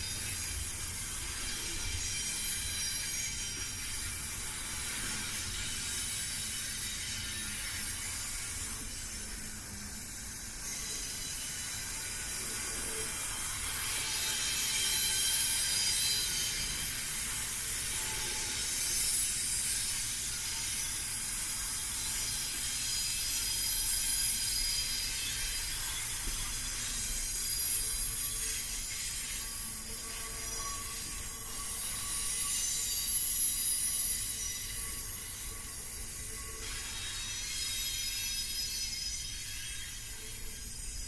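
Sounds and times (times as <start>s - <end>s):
freight train rolling on rails: 0.0s - 41.0s
wheel hiss and squeal: 0.0s - 41.0s.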